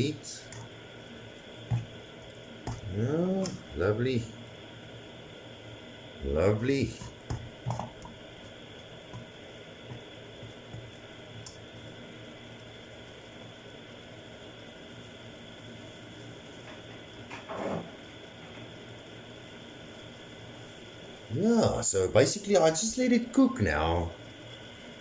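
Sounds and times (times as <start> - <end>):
food bubbling and sizzling in a pan: 0.4 - 3.7, 4.3 - 6.3, 6.9 - 21.7, 24.1 - 25.0.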